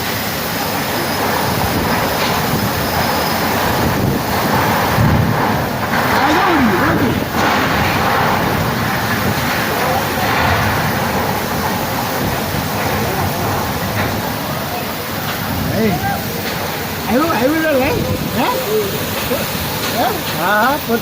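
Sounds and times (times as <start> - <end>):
gusty storm wind: 0.0 - 21.0
heavy rain pouring: 0.0 - 21.0.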